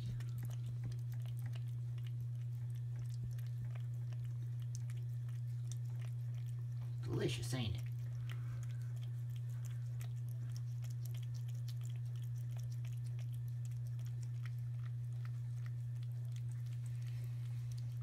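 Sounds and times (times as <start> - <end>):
cat chewing wet food: 0.0 - 18.0
low hum: 0.0 - 18.0.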